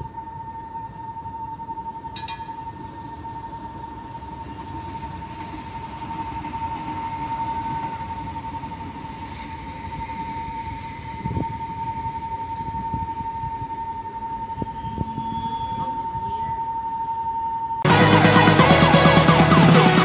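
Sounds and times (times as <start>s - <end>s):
diesel train whine and rumble: 0.0s - 20.0s.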